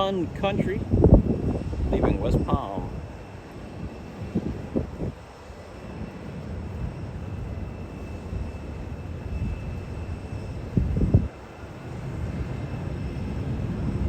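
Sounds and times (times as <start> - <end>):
jet engines at takeoff power: 0.0 - 14.0.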